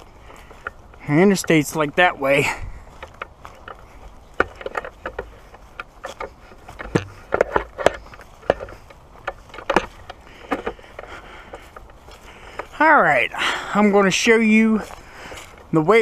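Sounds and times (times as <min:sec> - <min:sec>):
footsteps crunching dry leaves: 0:00.0 - 0:16.0.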